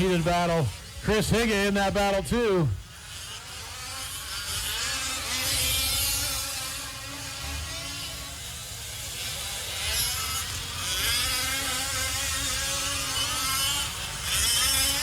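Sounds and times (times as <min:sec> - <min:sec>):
rc truck engines buzzing: 0:00.0 - 0:15.0.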